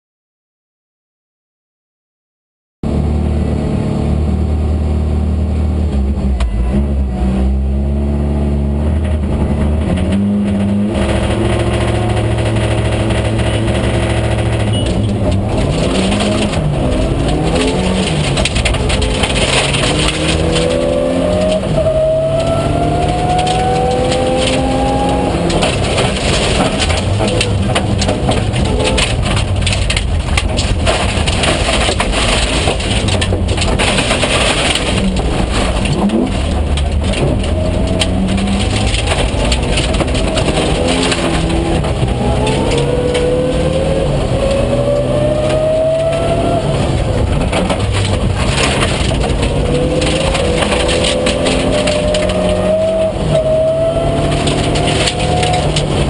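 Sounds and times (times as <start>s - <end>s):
car engine revving: 2.8s - 56.0s
gravel noise under tyres: 6.0s - 56.0s.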